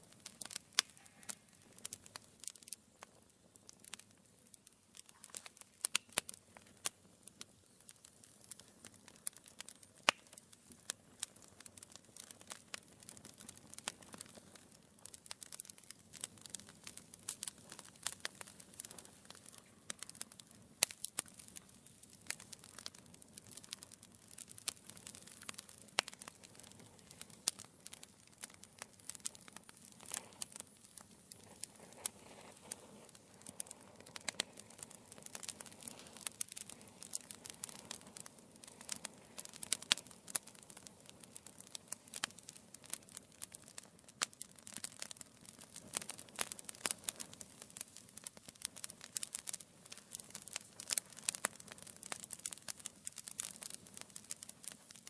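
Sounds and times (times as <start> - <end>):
logs crackling and popping: 0.0 - 55.0
soft steady fire hiss: 0.0 - 55.0.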